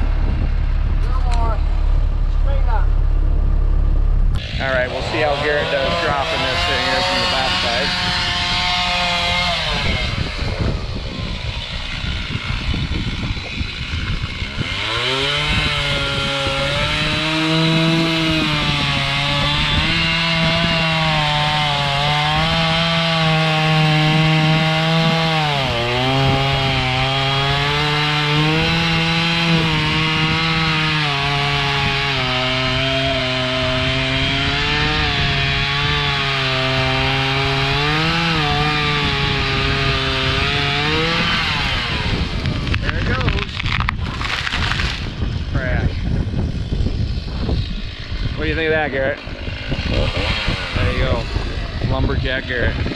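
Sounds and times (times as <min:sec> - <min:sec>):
chainsaw cutting a tree: 0:04.3 - 0:52.9.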